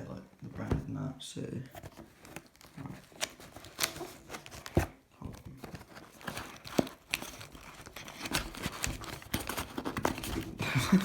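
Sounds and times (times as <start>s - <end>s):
cardboard packaging rustling: 1.6s - 11.0s.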